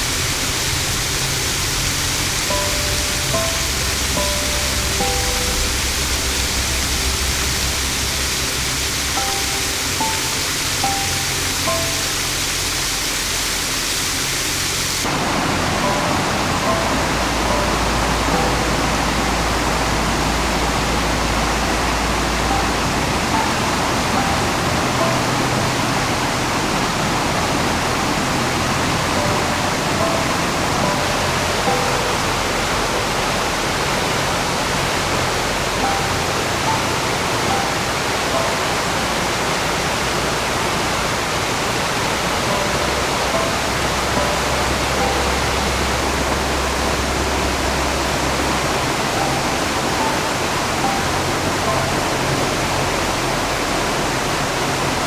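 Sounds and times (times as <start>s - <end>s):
stream rapids rushing: 0.0s - 55.0s.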